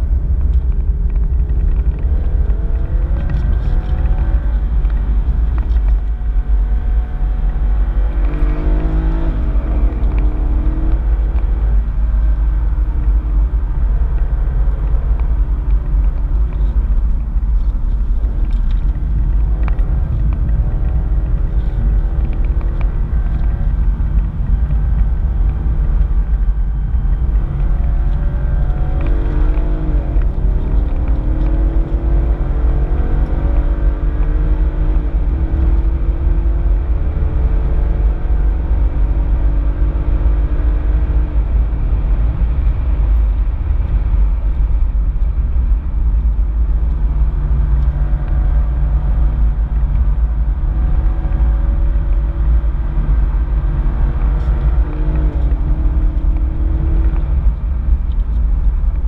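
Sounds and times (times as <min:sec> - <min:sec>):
car engine accelerating: 0:00.0 - 0:59.0
low road rumble: 0:00.0 - 0:59.0.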